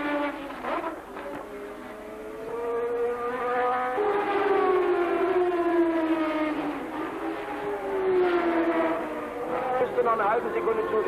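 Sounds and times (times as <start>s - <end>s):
racing car engines passing: 0.0s - 11.0s.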